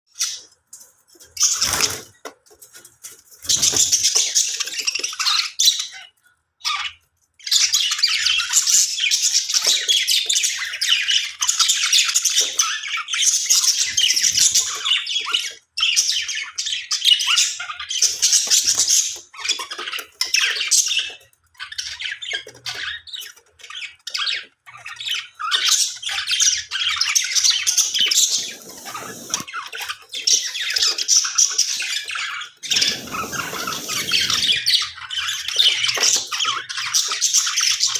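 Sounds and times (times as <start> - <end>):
budgerigars chattering and chirping: 1.2 - 2.1, 3.3 - 37.9.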